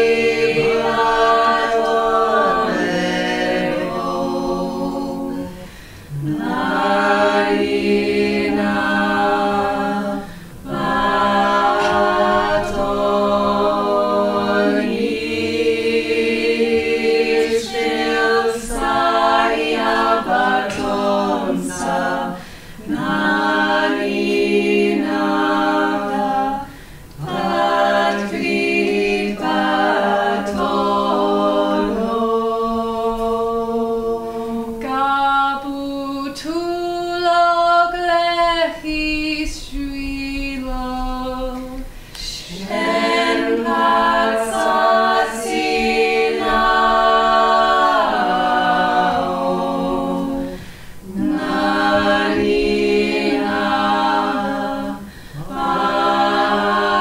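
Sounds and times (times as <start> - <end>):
vocal ensemble singing a cappella: 0.0 - 57.0.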